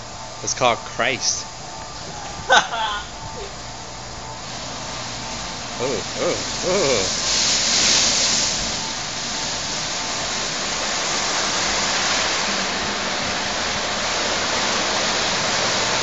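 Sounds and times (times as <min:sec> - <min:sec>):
car wash spraying water: 0:00.0 - 0:16.0.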